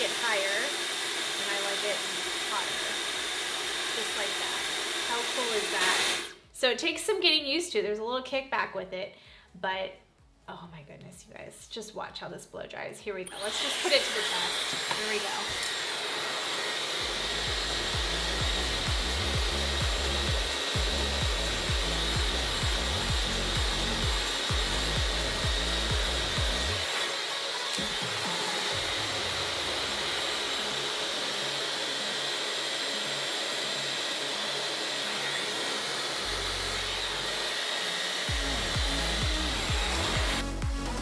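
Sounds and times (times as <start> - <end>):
hair dryer blowing: 0.0 - 6.5, 13.3 - 41.0.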